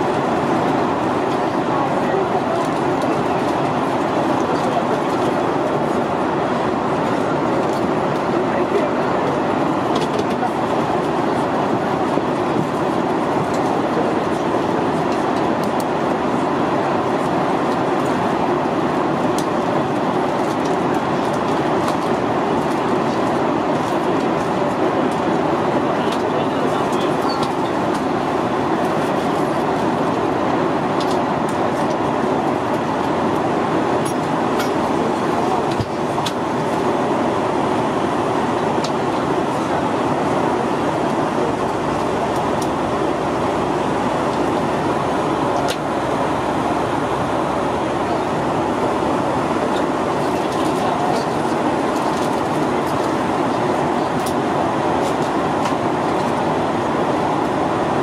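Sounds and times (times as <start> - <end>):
airplane cabin noise: 0.0 - 58.0.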